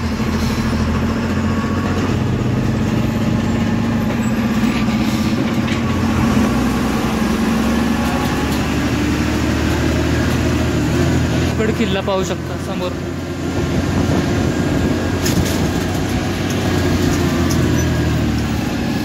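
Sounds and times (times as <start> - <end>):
bus diesel engine hum: 0.0 - 19.0.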